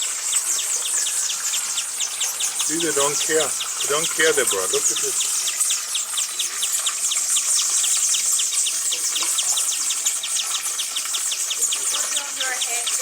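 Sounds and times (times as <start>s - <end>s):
shrill insect trill: 0.0s - 13.0s.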